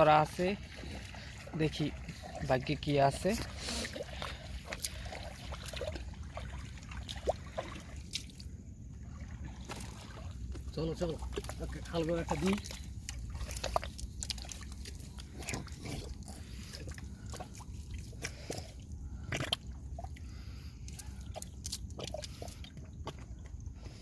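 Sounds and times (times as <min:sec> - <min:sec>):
steady low rumble: 0:00.0 - 0:24.0
water sloshing and dripping: 0:00.0 - 0:24.0
small splashes and clicks: 0:00.2 - 0:23.9.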